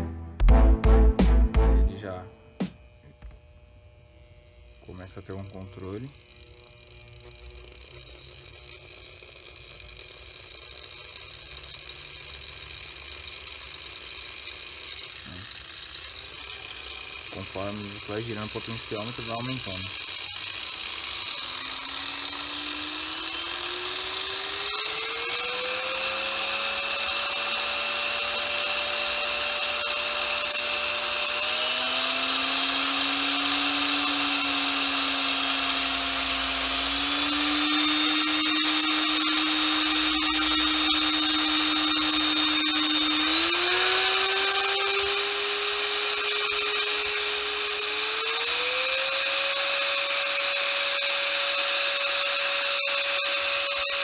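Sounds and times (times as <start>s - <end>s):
electric drill motor whining: 1.9s - 54.0s.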